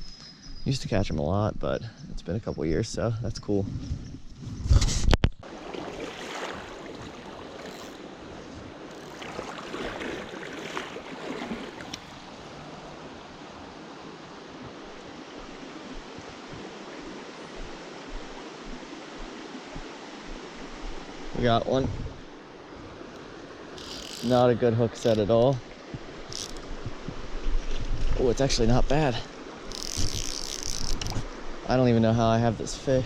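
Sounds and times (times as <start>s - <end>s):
creek water flowing: 5.4s - 33.0s.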